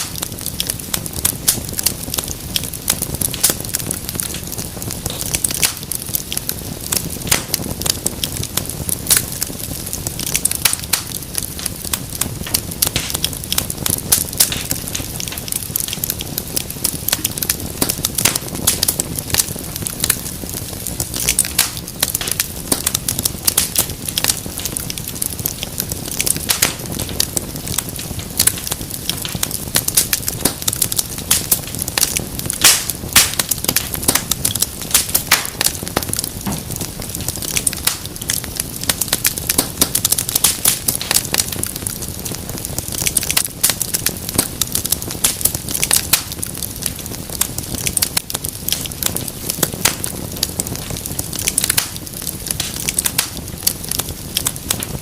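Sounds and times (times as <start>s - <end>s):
low rush of flames: 0.0s - 55.0s
wood fire crackling and popping: 0.0s - 55.0s.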